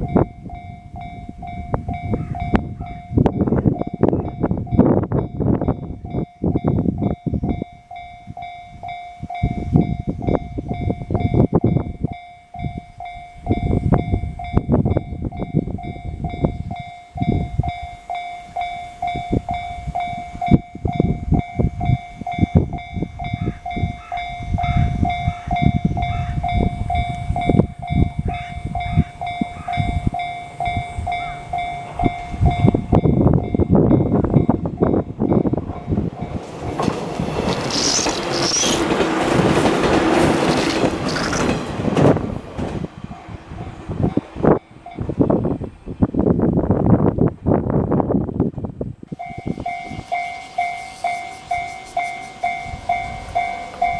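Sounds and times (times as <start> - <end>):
level-crossing warning bell ringing: 0.0 - 45.5, 49.1 - 53.9
train wheel and rail noise: 0.0 - 53.9
wind buffeting microphone: 0.0 - 53.9.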